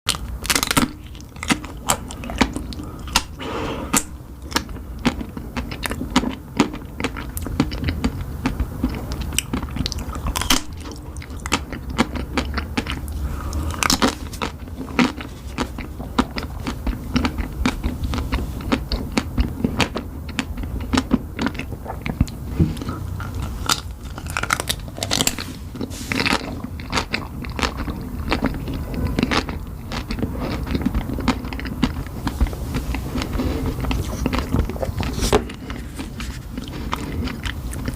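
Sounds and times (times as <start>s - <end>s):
crunchy chewing of chocolate: 0.1s - 37.9s.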